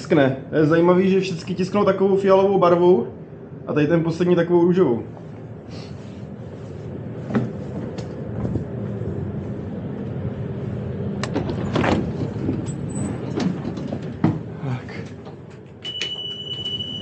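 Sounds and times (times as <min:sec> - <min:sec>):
tram equipment hum: 0:00.0 - 0:17.0.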